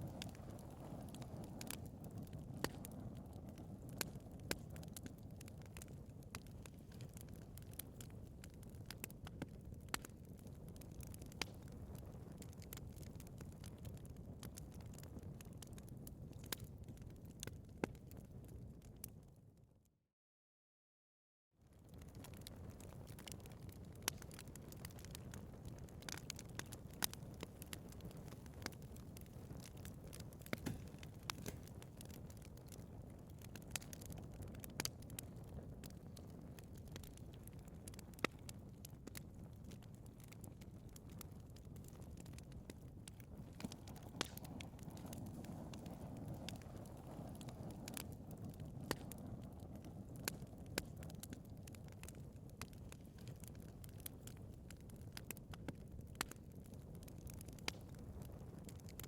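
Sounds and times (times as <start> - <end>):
fire crackling and popping: 0.0 - 19.5, 21.6 - 59.0
low rumble of flames: 0.0 - 19.7, 21.6 - 59.0.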